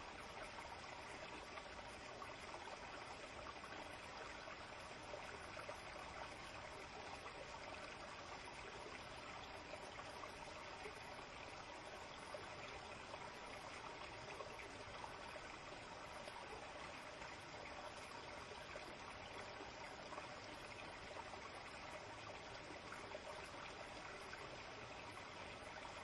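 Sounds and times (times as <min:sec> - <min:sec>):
stream trickling over rocks: 0:00.0 - 0:26.0.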